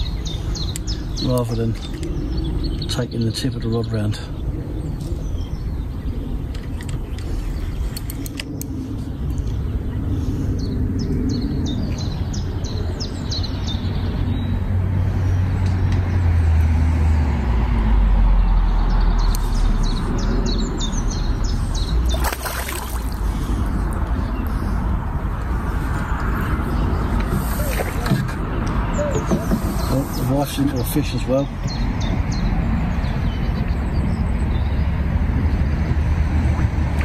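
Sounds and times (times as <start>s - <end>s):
small birds chirping: 0.0s - 16.2s, 18.4s - 35.6s
passing vehicle engine rumble: 0.0s - 37.0s.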